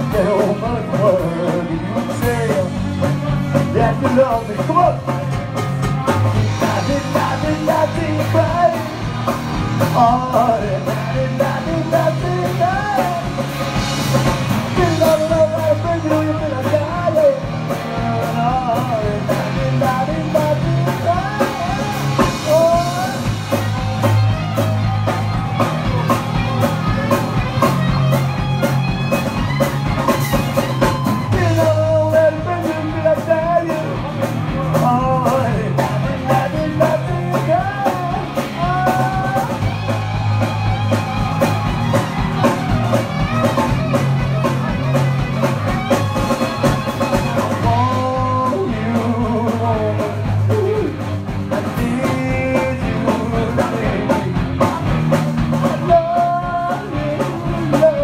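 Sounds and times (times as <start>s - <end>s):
person singing: 0.0s - 58.0s
rock and roll band playing: 0.0s - 58.0s.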